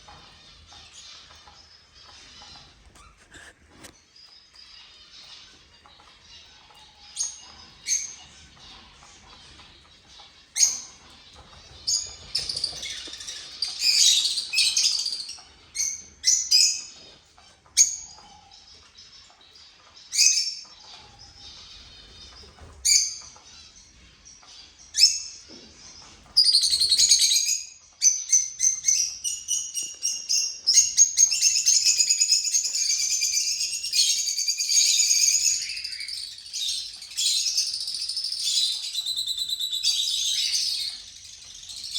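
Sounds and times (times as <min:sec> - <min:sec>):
cage birds chirping: 0:00.0 - 0:41.9.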